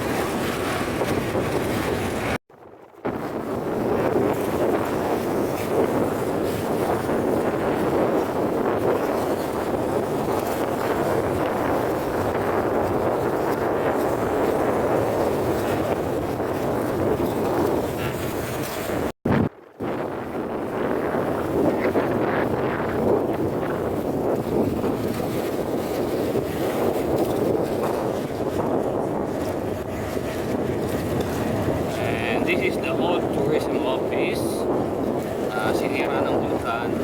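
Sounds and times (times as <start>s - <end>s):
motorboat running: 0.0s - 2.4s, 3.1s - 37.0s
wind on microphone: 0.0s - 37.0s.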